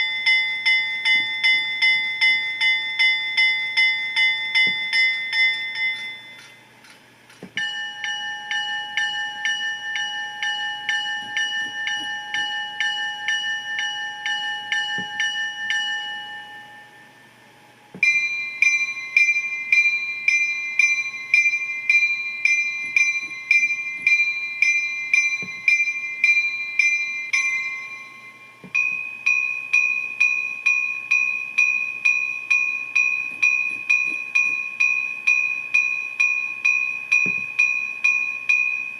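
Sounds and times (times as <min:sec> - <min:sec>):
locomotive bell ringing: 0:00.0 - 0:06.8, 0:07.6 - 0:38.9.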